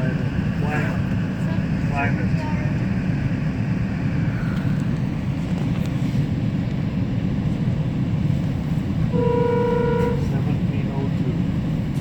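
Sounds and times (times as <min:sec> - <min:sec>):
train rumbling on board: 0:00.0 - 0:12.0.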